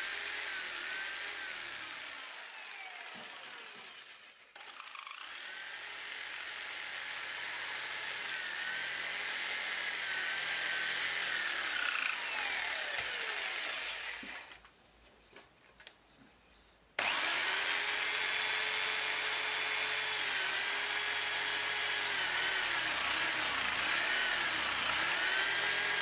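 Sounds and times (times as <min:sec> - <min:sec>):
jigsaw cutting wood: 0:00.0 - 0:14.6, 0:17.0 - 0:26.0.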